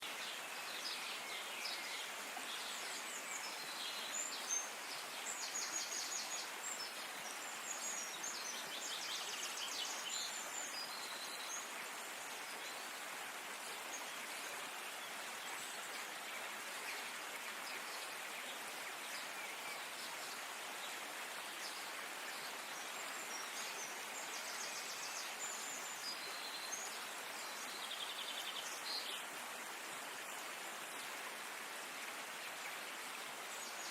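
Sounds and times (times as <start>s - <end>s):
outdoor hiss: 0.0s - 33.9s.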